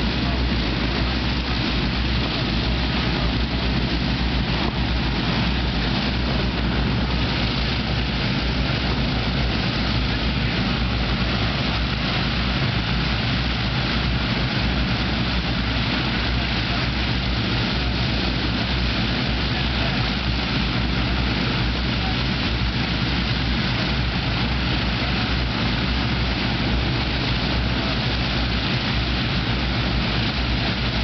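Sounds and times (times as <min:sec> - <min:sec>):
aircraft piston engines running: 0:00.0 - 0:31.0.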